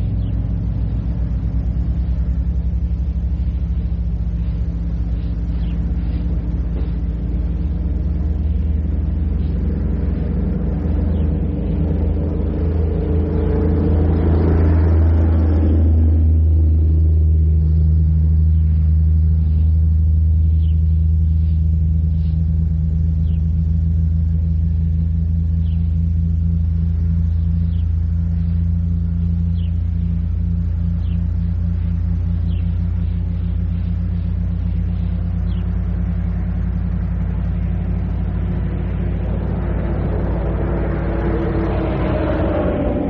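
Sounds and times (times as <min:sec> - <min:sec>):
faint bird chirps: 0:00.0 - 0:13.1, 0:16.7 - 0:39.1
vehicle passing: 0:00.0 - 0:23.6, 0:26.6 - 0:43.0
steady low hum: 0:00.0 - 0:43.0.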